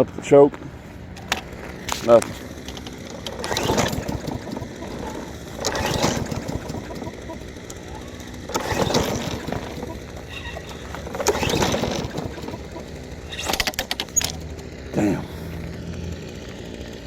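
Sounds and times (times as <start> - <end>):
mower engine pull-start cranking: 1.0 - 17.0.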